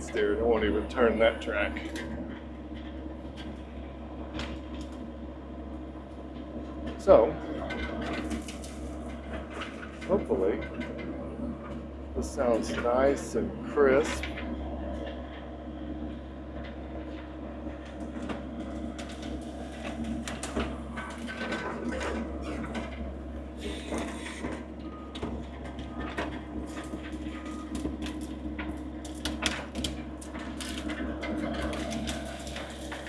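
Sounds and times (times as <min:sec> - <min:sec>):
diesel engine idling: 0:00.0 - 0:04.3, 0:05.0 - 0:33.0.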